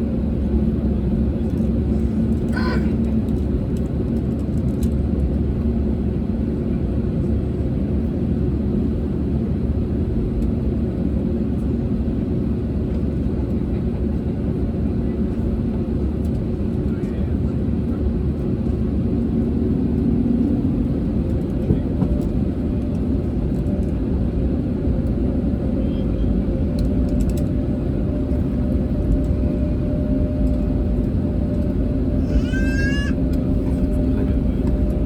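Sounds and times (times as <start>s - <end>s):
airplane rumble and hum: 0.0s - 35.0s.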